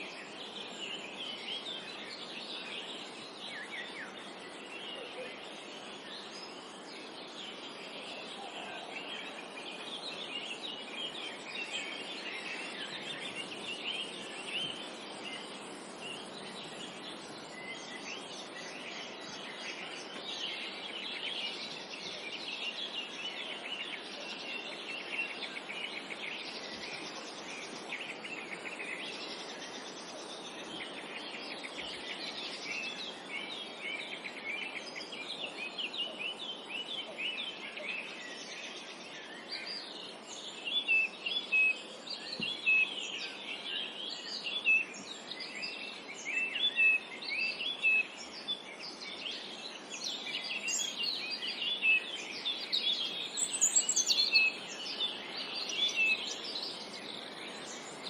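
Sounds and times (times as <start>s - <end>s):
songbirds chirping and trilling: 0.0s - 58.0s
steady background hiss: 0.0s - 58.0s.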